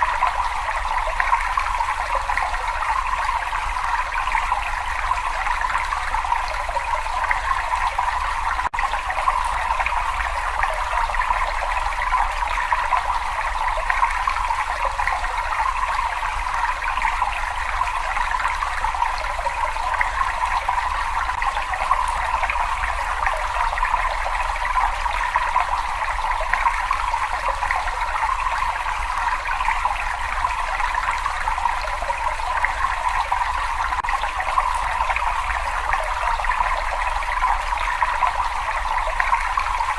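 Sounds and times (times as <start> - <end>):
water running in a cave: 0.0 - 39.9.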